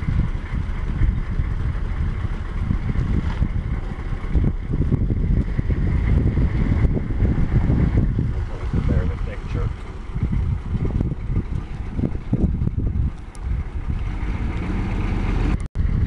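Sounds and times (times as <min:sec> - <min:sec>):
vehicle driving rumble: 0:00.0 - 0:16.0
wind buffeting microphone: 0:00.0 - 0:16.0.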